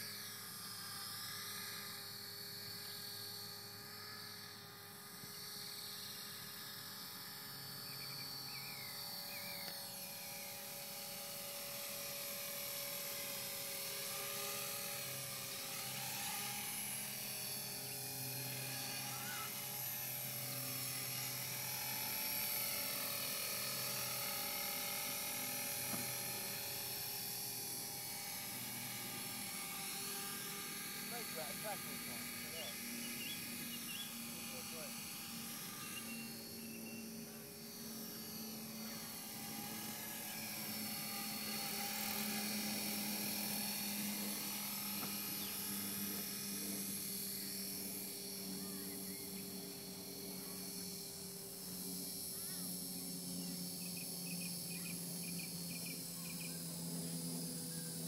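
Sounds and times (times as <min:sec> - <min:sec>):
toy helicopter motor whine: 0:00.0 - 0:58.0.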